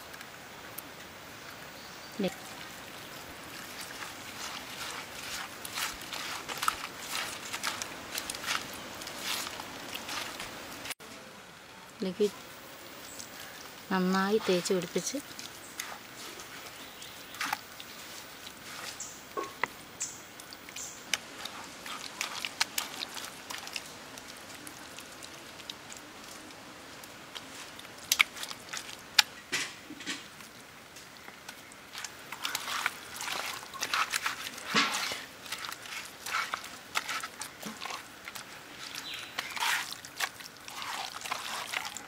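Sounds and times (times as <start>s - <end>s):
hands squishing wet paste: 2.2s - 10.9s, 13.1s - 19.4s, 20.4s - 29.4s, 31.2s - 42.0s.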